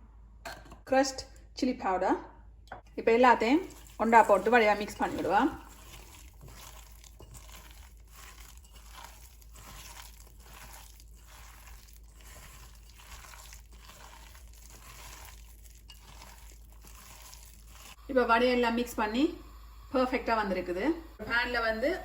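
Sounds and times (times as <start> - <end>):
thick batter being mixed: 3.2 - 21.0.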